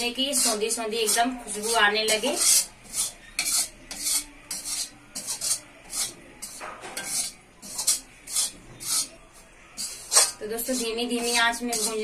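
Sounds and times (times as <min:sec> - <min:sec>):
spatula scraping flour in metal pan: 0:00.0 - 0:12.0.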